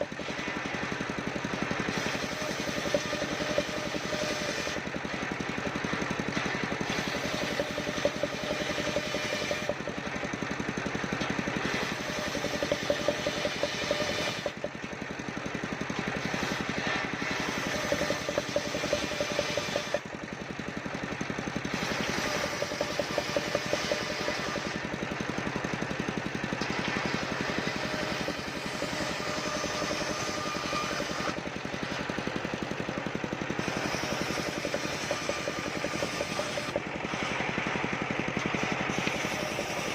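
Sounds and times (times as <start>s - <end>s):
circular sawmill cutting wood: 0.0s - 39.9s.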